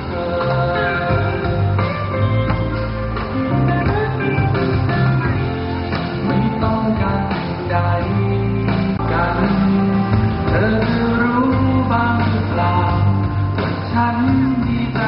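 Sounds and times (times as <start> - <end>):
man singing into a microphone: 0.0 - 1.8, 3.6 - 5.5, 6.1 - 15.0
pop backing music with bass: 0.0 - 15.0.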